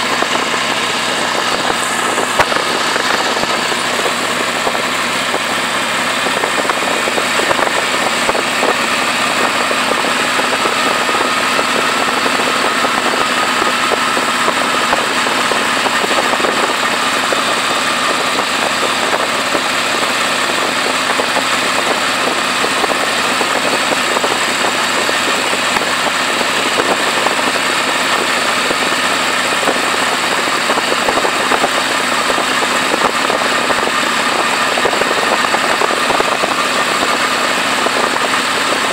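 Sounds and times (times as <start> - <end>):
motorcycle engine running: 0.0 - 38.9
wind over microphone: 0.0 - 38.9.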